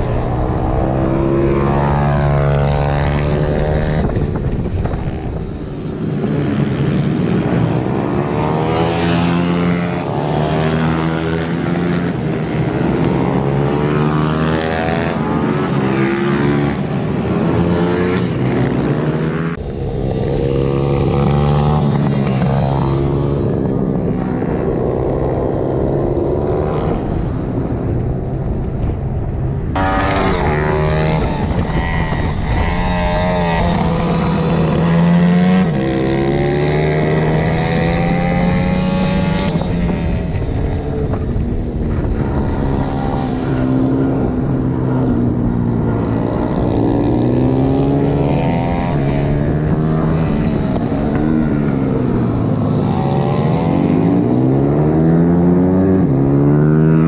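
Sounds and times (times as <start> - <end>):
wind rush: 0.0 - 57.0.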